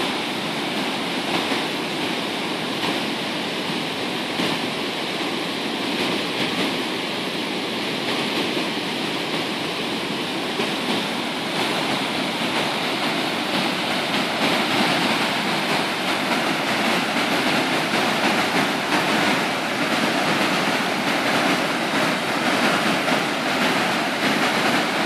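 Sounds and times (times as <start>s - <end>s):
water rushing over weir: 0.0s - 25.0s.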